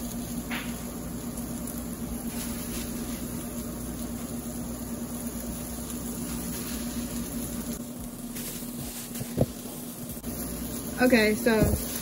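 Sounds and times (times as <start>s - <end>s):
chicken sizzling in a pan: 0.0s - 12.0s
constant low hum: 0.0s - 12.0s.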